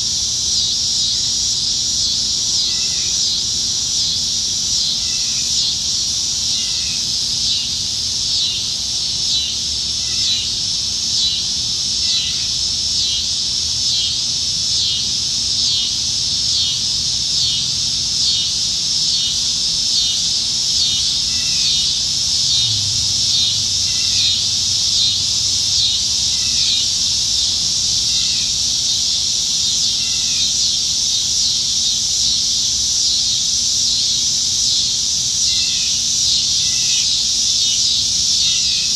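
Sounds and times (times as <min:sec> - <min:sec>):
cicadas buzzing: 0:00.0 - 0:38.9.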